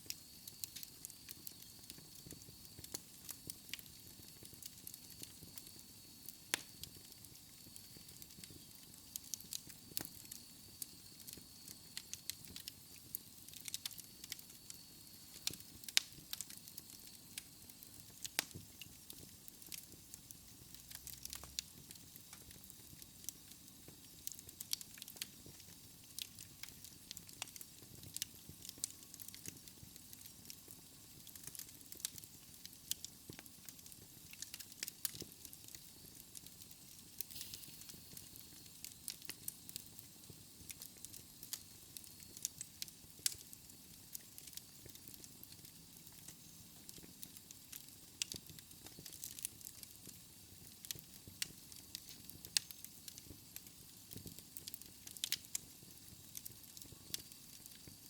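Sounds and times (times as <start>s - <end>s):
fire crackling and popping: 0.0s - 58.0s
soft steady hiss: 0.0s - 58.0s.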